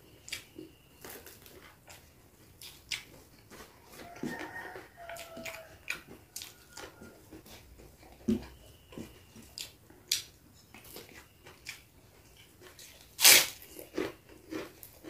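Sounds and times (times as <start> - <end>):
person chewing with mouth smacks: 0.1 - 15.0.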